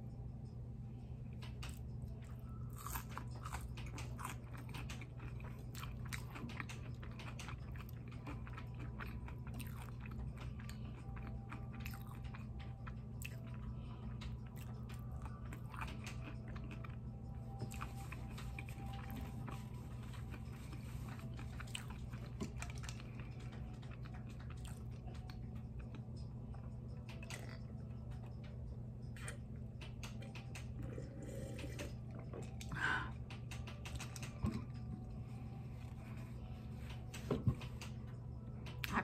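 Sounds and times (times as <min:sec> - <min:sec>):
steady low hum: 0:00.0 - 0:39.0
chewing and crunching fries: 0:01.4 - 0:37.2.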